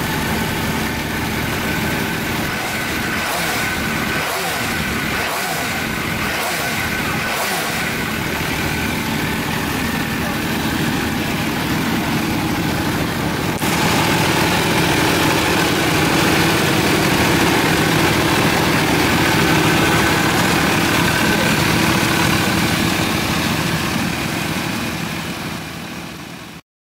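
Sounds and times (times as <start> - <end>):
motorcycle engine idling: 0.0 - 26.6.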